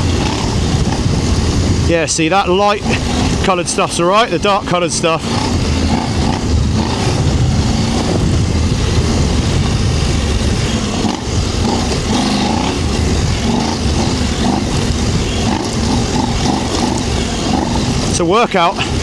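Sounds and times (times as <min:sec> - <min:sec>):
motorcycle engine revving under load: 0:00.0 - 0:19.0.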